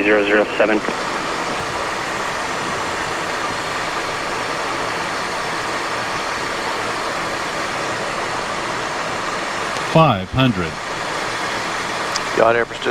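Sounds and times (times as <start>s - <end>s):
airflow and jet engine noise: 0.0s - 12.9s.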